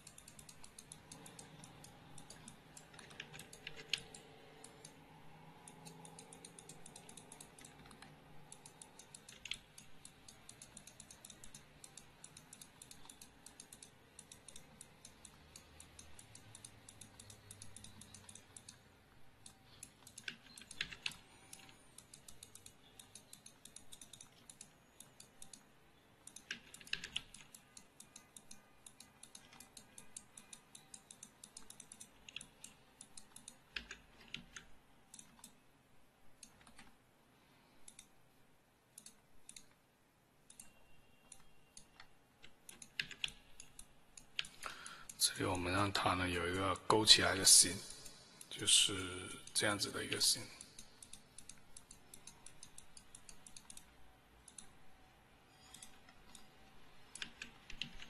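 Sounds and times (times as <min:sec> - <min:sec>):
computer keyboard clicking: 0:00.0 - 0:35.6, 0:36.4 - 0:37.0, 0:37.8 - 0:38.2, 0:39.0 - 0:39.8, 0:40.5 - 0:46.6, 0:47.5 - 0:54.9, 0:55.5 - 0:58.0.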